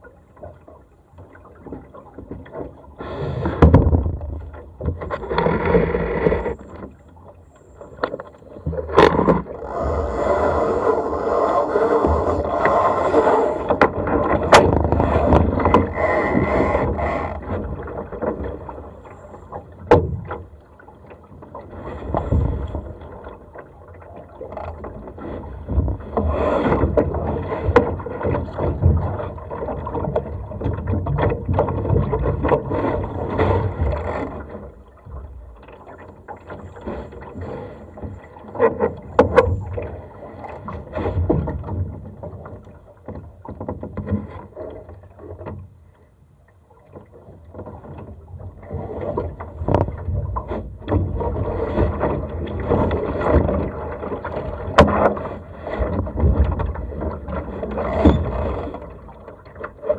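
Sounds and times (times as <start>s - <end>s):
water slapping boat hull: 0.0s - 59.9s.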